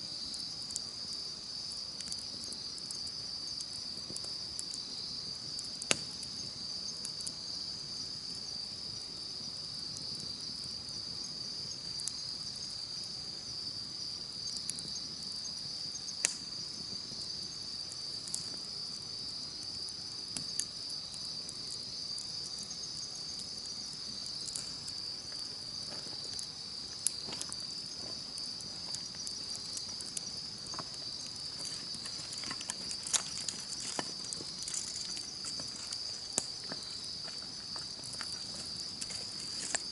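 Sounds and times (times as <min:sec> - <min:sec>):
campfire crackling and popping: 0:00.0 - 0:39.9
insects chirping: 0:00.0 - 0:39.9.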